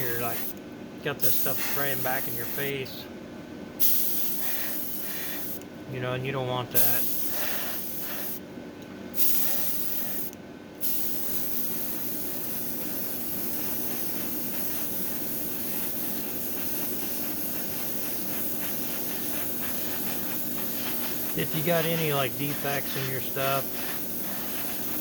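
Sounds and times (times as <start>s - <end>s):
airbrush spraying hiss: 0.0s - 0.6s, 1.2s - 2.8s, 3.8s - 5.6s, 6.8s - 8.4s, 9.2s - 25.0s
fans humming: 0.0s - 25.0s.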